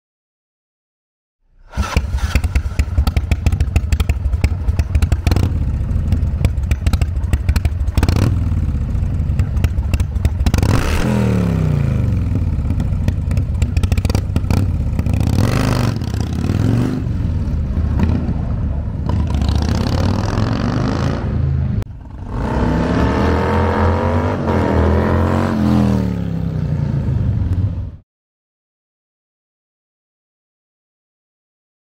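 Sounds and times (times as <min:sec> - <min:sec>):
motorcycle engine idling and revving: 0:01.6 - 0:28.0.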